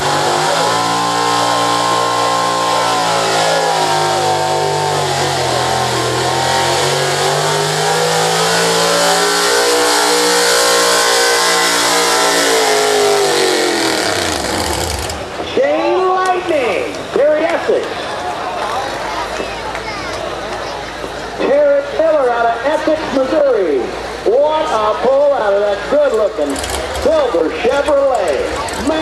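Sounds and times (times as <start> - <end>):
truck engine at full throttle: 0.0 - 29.0.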